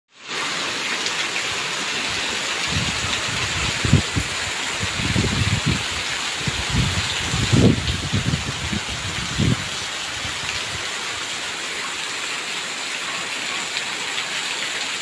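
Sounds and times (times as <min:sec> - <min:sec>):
heavy rain on puddles: 0:00.1 - 0:15.0.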